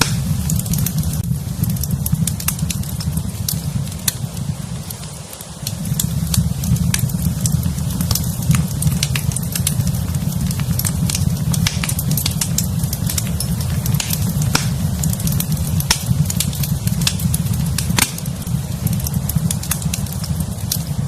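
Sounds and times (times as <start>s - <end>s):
fire crackling and snapping: 0.0s - 21.0s
low rumble of flames: 0.0s - 21.0s.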